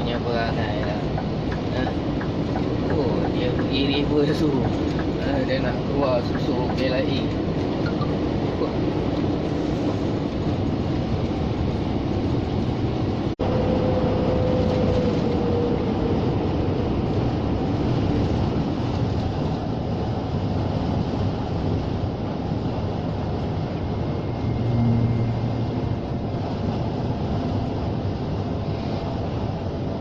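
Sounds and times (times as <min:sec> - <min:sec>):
lorry engine and road noise: 0:00.0 - 0:30.0.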